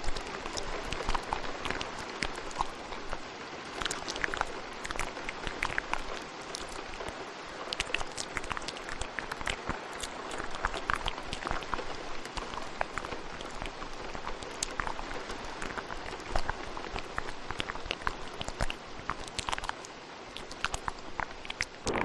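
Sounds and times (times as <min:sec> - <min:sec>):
rain hiss: 0:00.0 - 0:22.0
wet mouth clicks and pops: 0:00.0 - 0:22.0.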